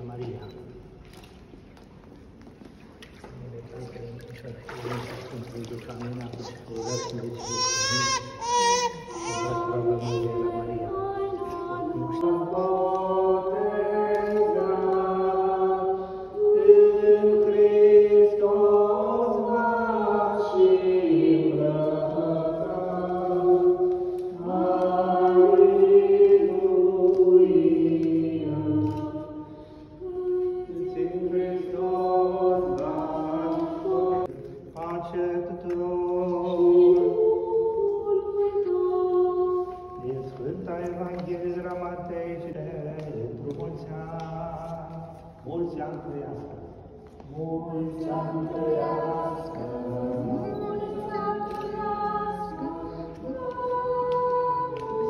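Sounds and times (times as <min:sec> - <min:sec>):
voices chanting a hymn: 0:04.7 - 0:55.0.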